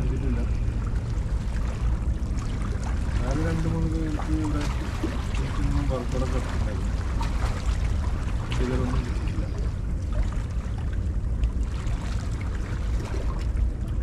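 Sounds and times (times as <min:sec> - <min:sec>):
low rumble: 0:00.0 - 0:14.0
sea water lapping on concrete: 0:00.0 - 0:14.0.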